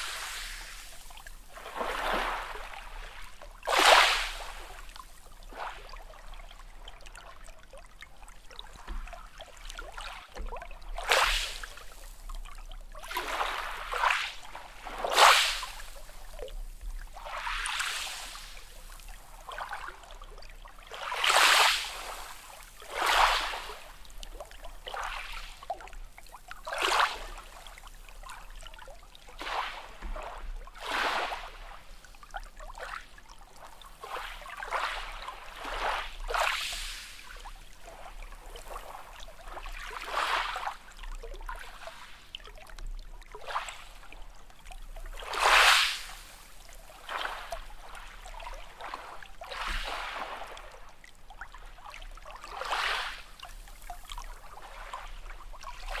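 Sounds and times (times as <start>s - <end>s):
small waves splashing: 0.0s - 56.0s.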